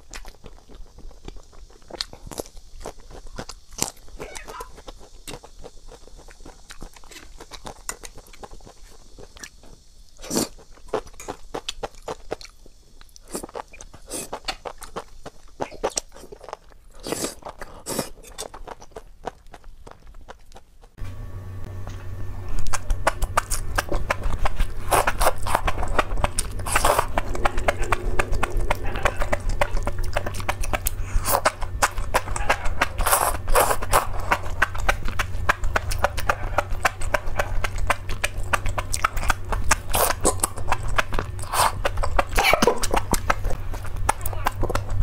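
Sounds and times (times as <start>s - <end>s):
wet chewing and slurping: 0.0s - 21.0s, 22.5s - 45.0s
steady low hum: 0.0s - 45.0s.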